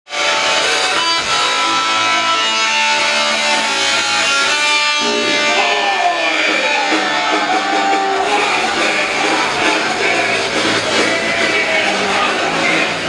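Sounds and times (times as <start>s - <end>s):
electric guitar strumming chords: 0.1s - 13.0s
punk band playing live: 0.1s - 13.0s.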